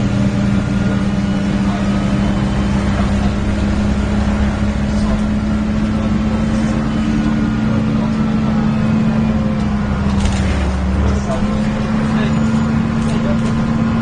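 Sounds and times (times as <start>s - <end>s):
bus diesel engine droning: 0.0s - 14.0s.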